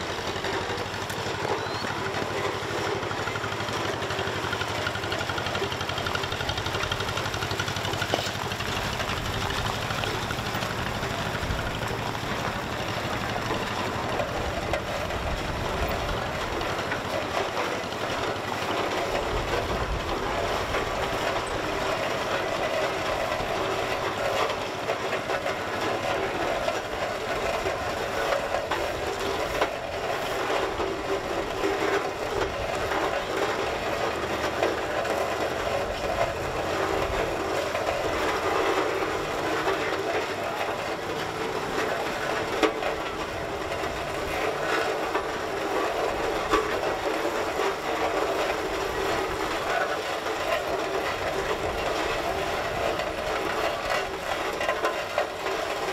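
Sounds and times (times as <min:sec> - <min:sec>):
steam engine clattering over gravel: 0:00.0 - 0:55.9.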